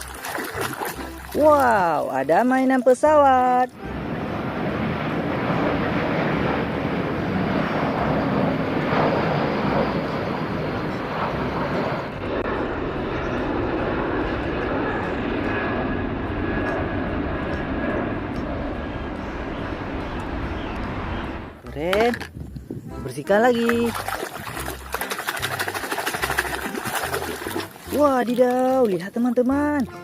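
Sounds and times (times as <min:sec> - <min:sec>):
airplane engine noise: 0:00.0 - 0:30.0.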